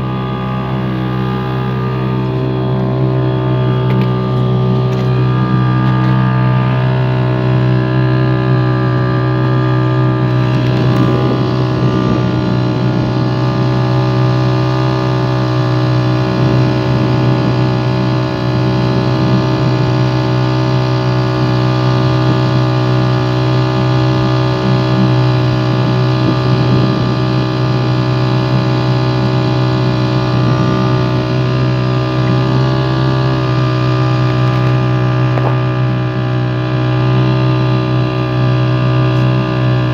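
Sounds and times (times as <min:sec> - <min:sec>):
motorboat engine humming: 0:00.0 - 0:39.9.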